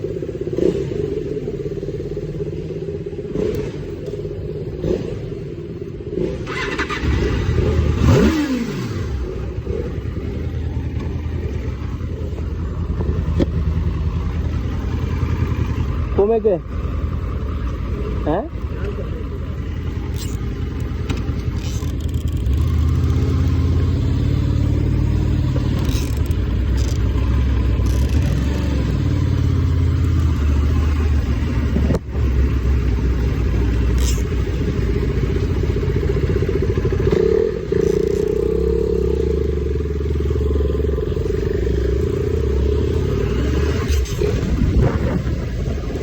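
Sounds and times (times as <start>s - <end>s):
motocross bike engine revving: 0.4s - 1.9s, 3.2s - 11.1s, 17.8s - 46.0s.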